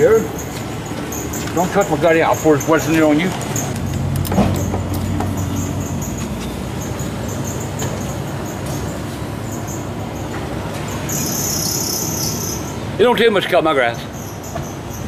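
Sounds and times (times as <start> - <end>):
fuel pump rushing hiss: 0.0 - 15.0.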